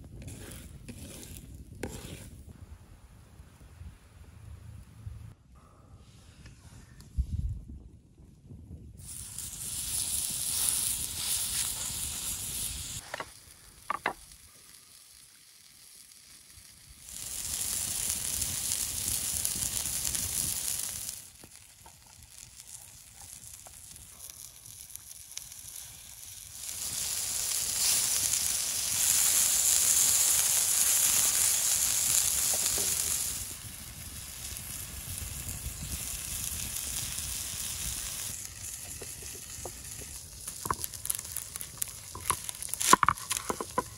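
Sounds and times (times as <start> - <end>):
meat patty sizzling on hot stone: 0.0 - 2.5, 9.0 - 43.9.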